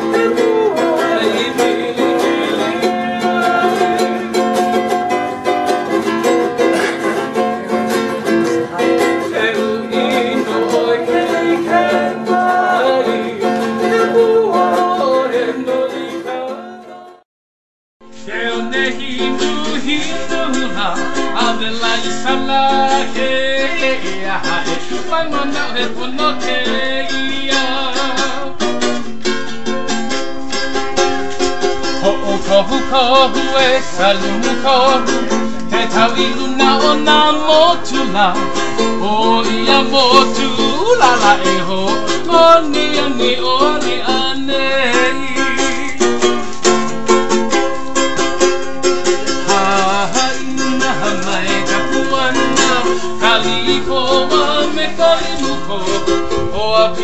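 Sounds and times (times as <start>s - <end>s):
man singing: 0.0s - 17.2s, 18.1s - 30.1s, 31.9s - 46.5s, 49.2s - 57.0s
ukulele strumming: 0.0s - 17.2s, 18.1s - 57.0s.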